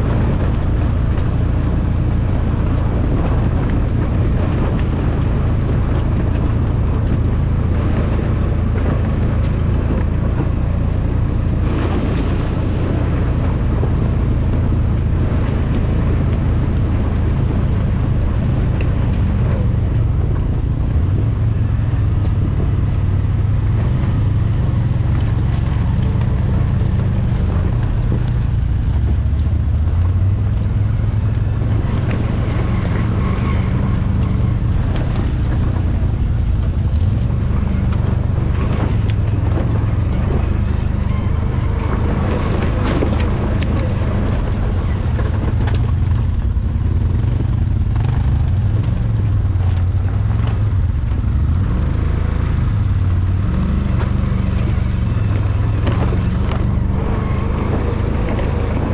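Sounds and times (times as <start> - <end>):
atv engine revving: 0.0 - 58.9.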